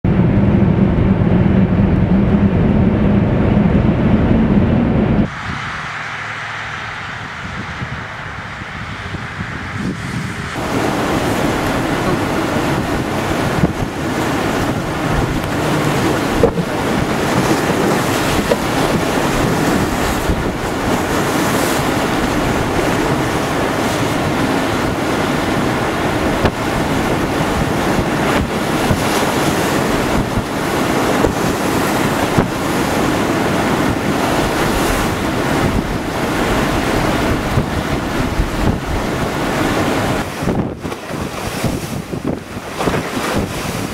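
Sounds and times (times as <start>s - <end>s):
strong wind on microphone: 0.0s - 43.9s
waves splashing: 0.9s - 43.9s.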